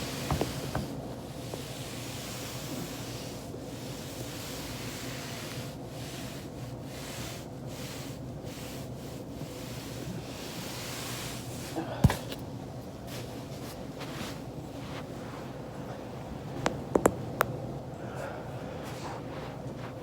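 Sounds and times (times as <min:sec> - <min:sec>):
body rubbing on foam roller: 0:00.0 - 0:17.2, 0:18.8 - 0:20.0.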